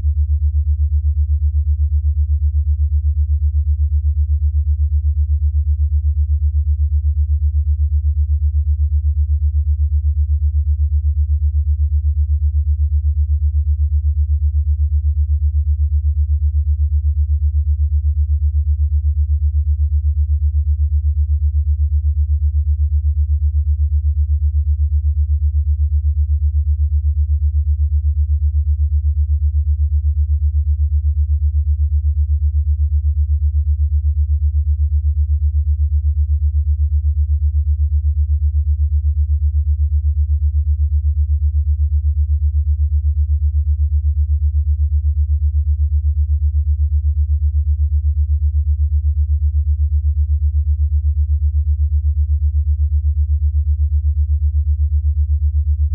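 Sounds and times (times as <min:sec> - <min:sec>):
low pulsing electronic tone: 0:00.0 - 0:55.9.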